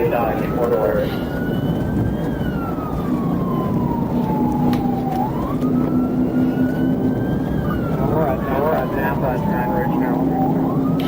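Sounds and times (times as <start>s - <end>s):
police siren wailing: 0.0s - 11.0s
road and engine noise: 0.0s - 11.0s.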